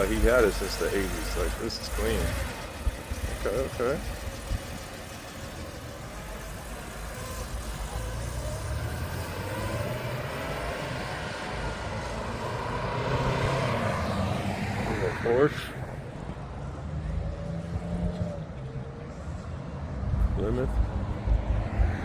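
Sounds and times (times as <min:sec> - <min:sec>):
passing vehicle engine rumble: 0:00.0 - 0:22.0.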